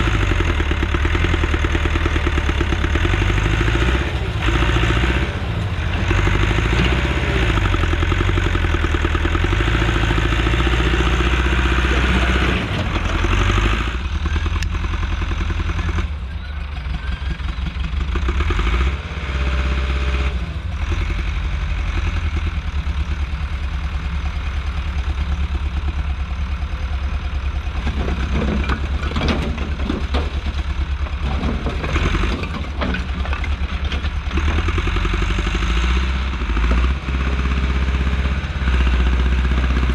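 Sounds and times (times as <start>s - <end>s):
track loader engine running: 0.0s - 39.9s.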